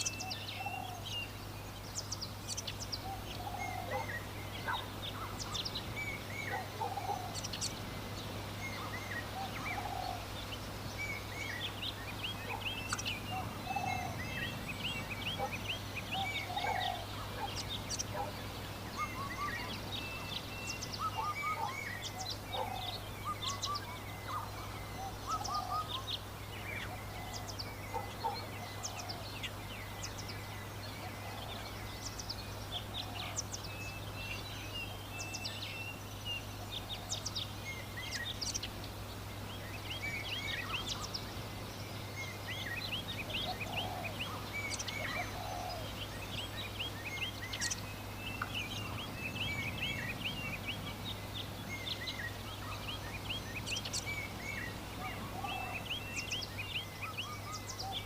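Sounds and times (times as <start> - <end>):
birds chirping: 0.0 - 58.0
lower bird call: 0.0 - 58.0.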